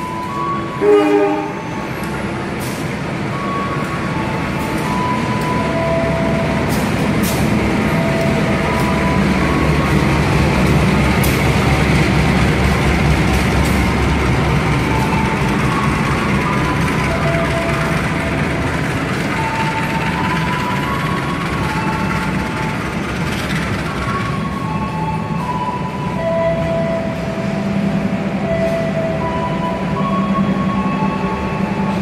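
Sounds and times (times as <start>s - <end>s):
locomotive engine rumble: 0.0s - 32.0s
train rolling on rails: 0.0s - 32.0s.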